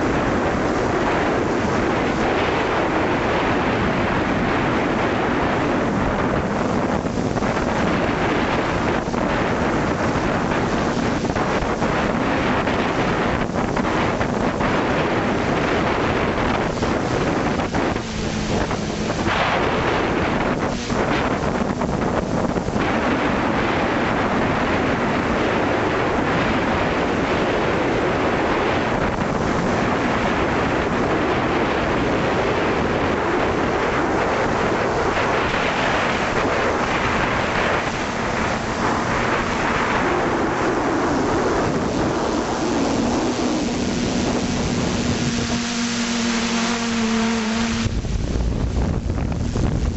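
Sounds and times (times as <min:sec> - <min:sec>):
drone motors humming: 0:00.0 - 0:24.6, 0:34.4 - 0:49.9
wind rush on microphone: 0:00.0 - 0:49.9.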